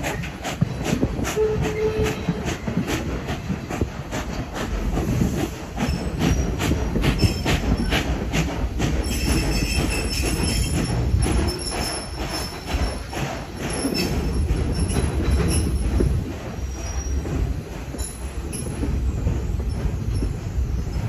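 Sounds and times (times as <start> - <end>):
train cars rumbling: 0.0 - 21.0
wheels clicking and knocking: 0.0 - 21.0.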